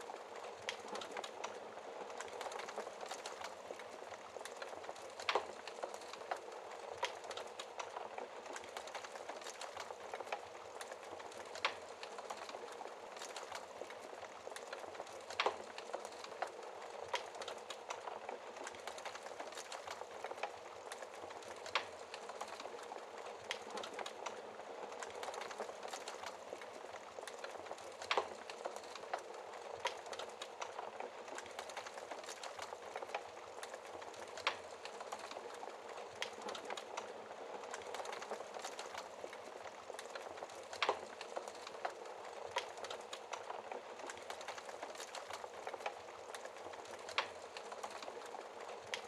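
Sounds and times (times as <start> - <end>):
wood fire crackling and popping: 0.0 - 49.0.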